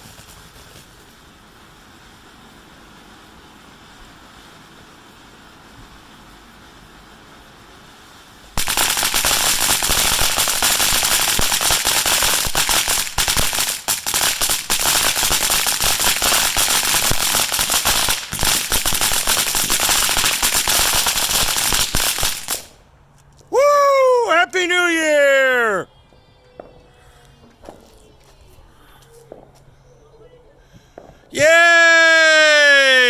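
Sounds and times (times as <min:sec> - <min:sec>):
firecrackers crackling: 0:00.0 - 0:25.9, 0:30.8 - 0:33.0.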